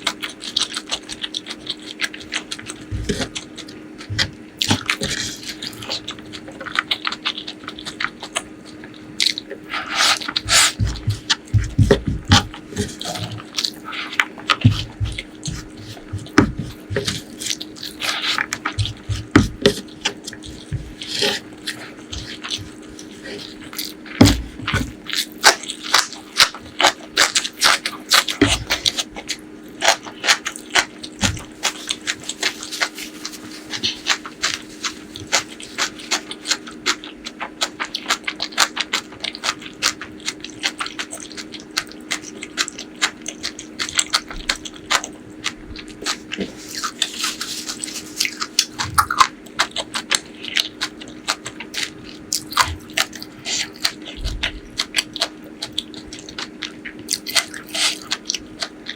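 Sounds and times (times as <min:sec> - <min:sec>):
faint steady hum: 0:00.0 - 0:58.9
wet chewing and mouth smacks: 0:00.0 - 0:58.9.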